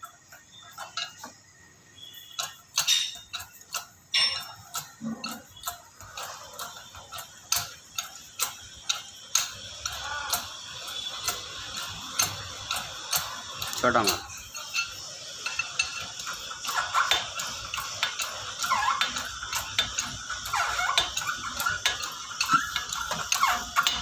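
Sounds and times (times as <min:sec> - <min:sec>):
metal parts clicking and clinking: 0:00.0 - 0:01.4, 0:02.1 - 0:24.0.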